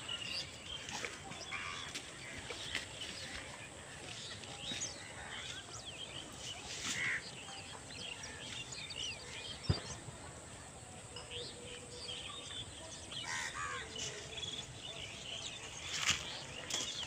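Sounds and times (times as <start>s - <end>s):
many birds chirping: 0.0s - 17.0s.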